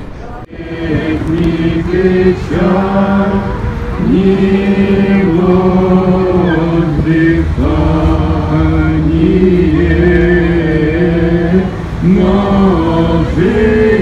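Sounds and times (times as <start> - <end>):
worshippers chanting in unison: 0.5 - 14.0.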